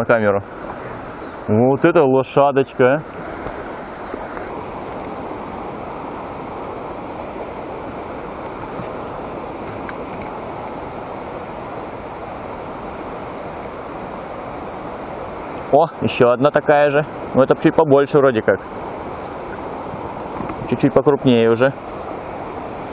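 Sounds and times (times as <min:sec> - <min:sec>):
river flowing over rocks: 0:02.8 - 0:17.5, 0:18.5 - 0:22.9.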